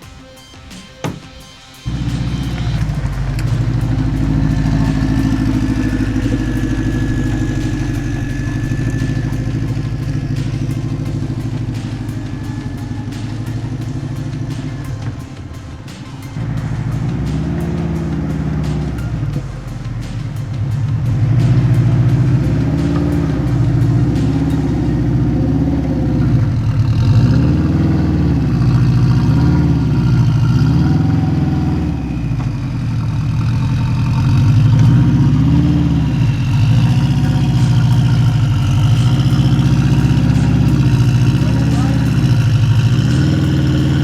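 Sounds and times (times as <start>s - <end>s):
race car engine throttle blips: 0.7s - 44.0s.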